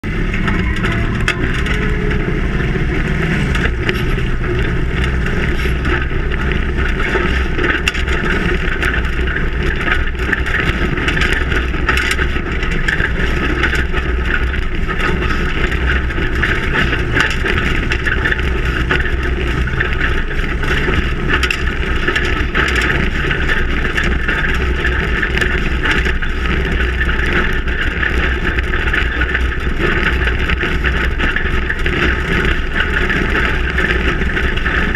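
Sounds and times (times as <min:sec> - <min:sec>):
truck engine under load: 0:00.0 - 0:34.9
wind and tyre noise: 0:00.0 - 0:34.9.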